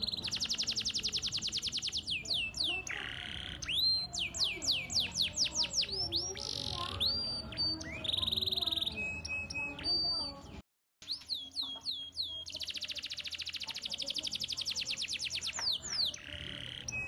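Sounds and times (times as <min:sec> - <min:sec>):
canary singing: 0:00.0 - 0:17.0.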